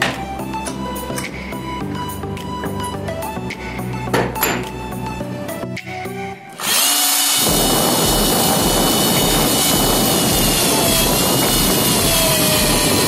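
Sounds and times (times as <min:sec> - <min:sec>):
background music: 0:00.0 - 0:13.0
drill press whining: 0:00.0 - 0:13.0.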